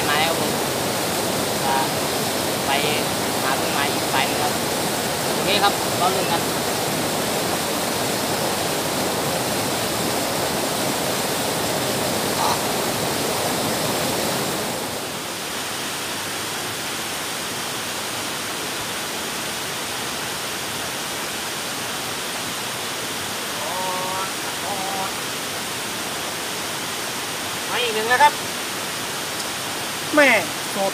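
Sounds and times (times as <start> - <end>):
flowing water rushing: 0.0 - 30.9.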